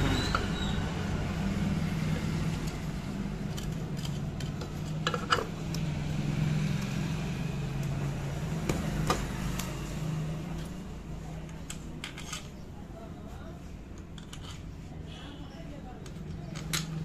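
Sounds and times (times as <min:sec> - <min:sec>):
low hum of vehicle engines: 0:00.0 - 0:17.0.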